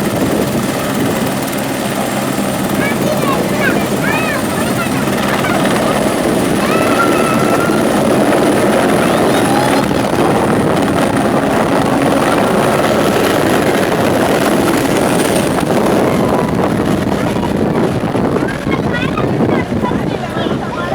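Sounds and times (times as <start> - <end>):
helicopter running: 0.0 - 20.9.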